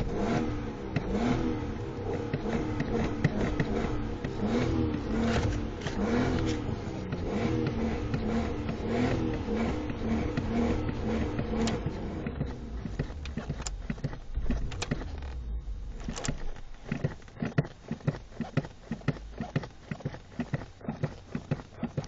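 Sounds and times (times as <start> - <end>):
car engine running: 0.0 - 22.0
boot footsteps on hard surface: 2.1 - 22.0.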